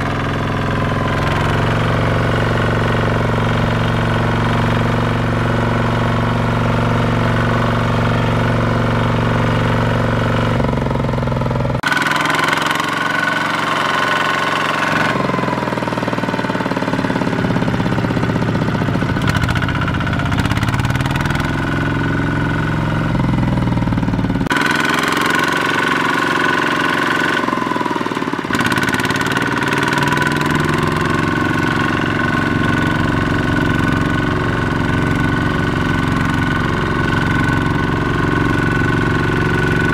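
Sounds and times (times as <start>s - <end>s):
diesel tractor engine chugging: 0.0s - 39.9s.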